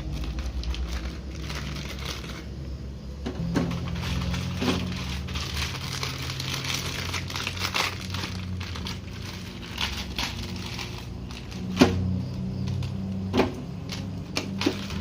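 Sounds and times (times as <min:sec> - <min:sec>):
plastic wrapper crinkling: 0:00.0 - 0:02.7, 0:03.6 - 0:11.8, 0:13.8 - 0:15.0.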